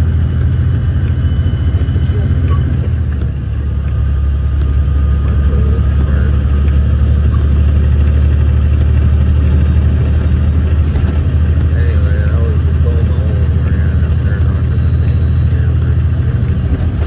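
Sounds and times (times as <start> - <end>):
diesel truck engine rumble: 0.0 - 17.0.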